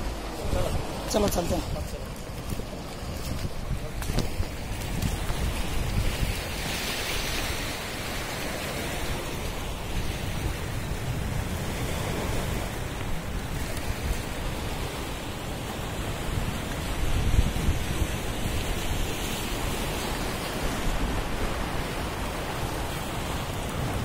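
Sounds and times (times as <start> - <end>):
sea waves breaking over rocks: 0.0 - 24.0
wind rumbling on microphone: 0.0 - 24.0.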